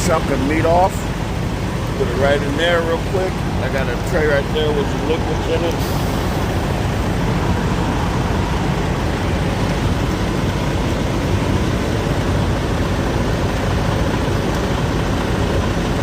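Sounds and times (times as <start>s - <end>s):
diesel truck engines idling: 0.0s - 16.0s.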